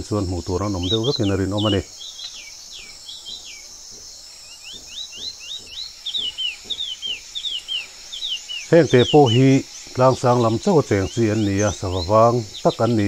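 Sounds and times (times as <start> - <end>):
high insect drone: 0.0 - 13.0
songbirds chirping: 0.0 - 13.0.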